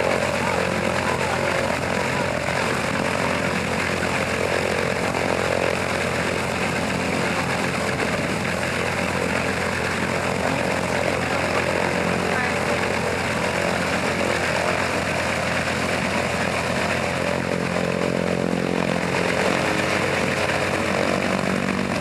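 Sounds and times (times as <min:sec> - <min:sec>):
radial engine and propeller running: 0:00.0 - 0:22.0.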